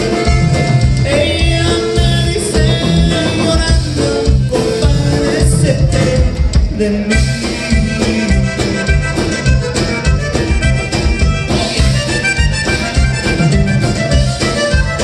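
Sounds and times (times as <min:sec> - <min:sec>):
accordion: 0:00.0 - 0:15.0
live band with accordion: 0:00.0 - 0:15.0.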